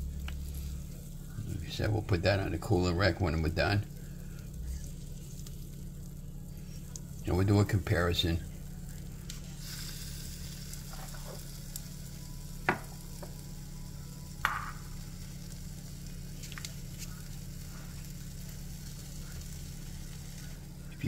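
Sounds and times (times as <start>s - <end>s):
batter sizzling in waffle maker: 0.0s - 21.0s.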